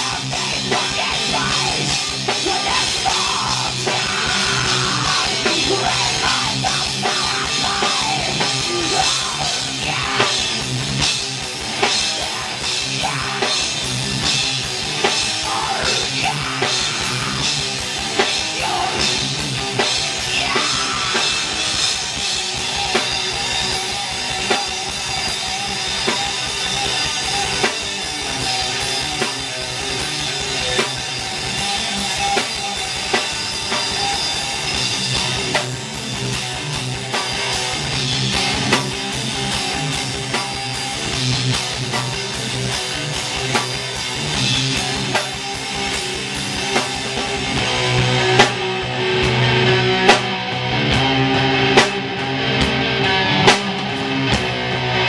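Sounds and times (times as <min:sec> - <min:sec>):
distorted electric guitars: 0:00.0 - 0:55.0
drum kit and cymbal hits: 0:00.0 - 0:55.0.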